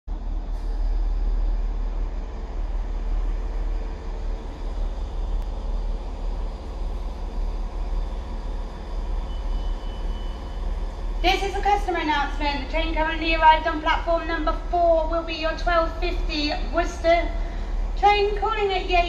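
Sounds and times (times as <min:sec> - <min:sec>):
railway station ambience rumble: 0:00.1 - 0:19.0.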